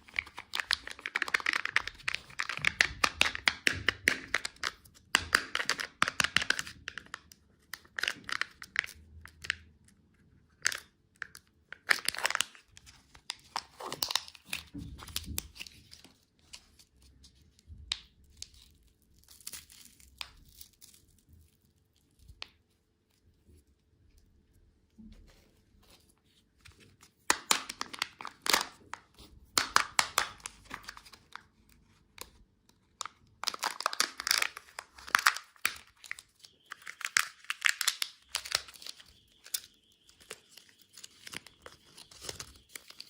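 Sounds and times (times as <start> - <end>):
plastic packaging crinkling and tearing: 0.0 - 9.7, 10.5 - 22.6, 26.6 - 43.0.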